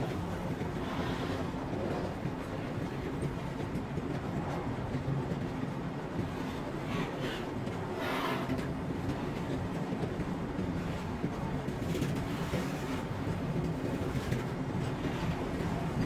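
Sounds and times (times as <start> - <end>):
freight wagons rumbling on rails: 0.0 - 16.0.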